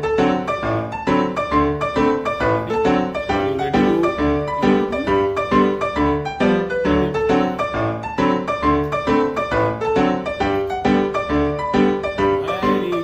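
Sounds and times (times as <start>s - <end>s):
piano-like instrumental music: 0.0s - 13.0s.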